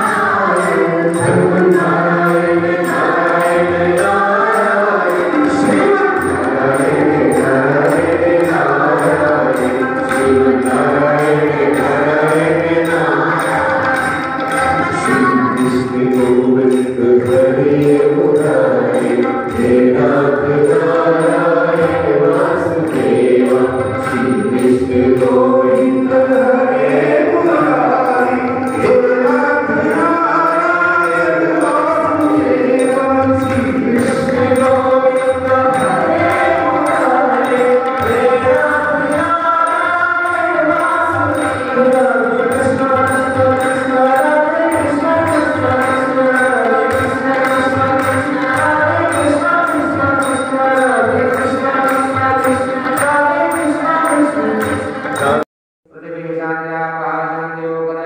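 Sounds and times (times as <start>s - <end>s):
group singing devotional song: 0.0s - 55.4s
harmonium: 0.0s - 55.5s
tabla: 0.0s - 58.0s.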